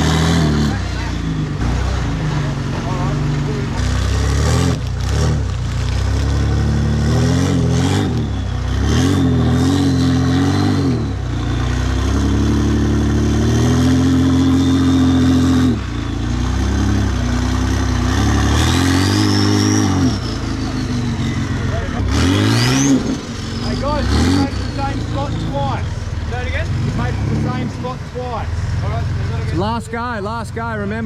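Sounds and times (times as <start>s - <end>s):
off-road engine revving hard: 0.0s - 31.0s.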